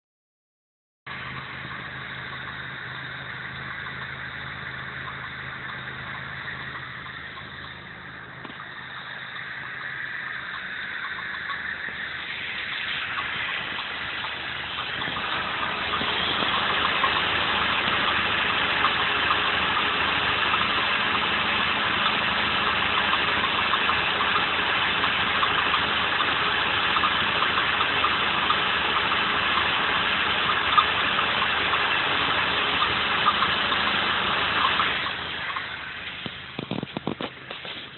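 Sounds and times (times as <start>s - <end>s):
car engine running: 1.1s - 37.9s
squealing noise: 1.1s - 37.9s.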